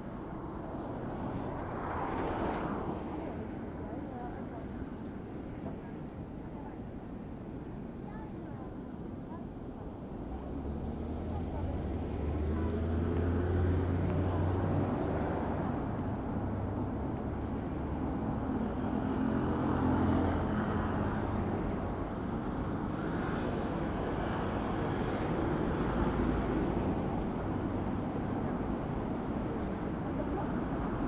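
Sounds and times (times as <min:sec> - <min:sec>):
road noise: 0:00.0 - 0:31.0.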